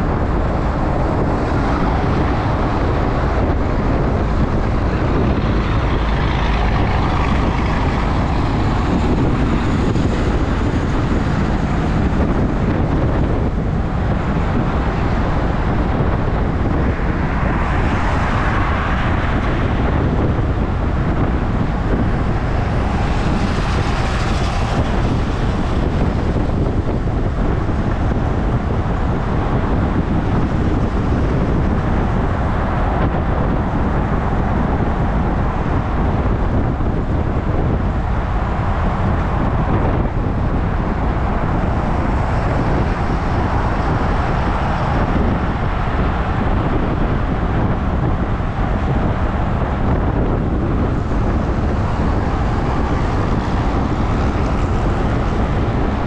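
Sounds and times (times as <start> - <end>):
road and traffic noise: 0.0 - 56.0
wind rushing over microphone: 0.0 - 56.0.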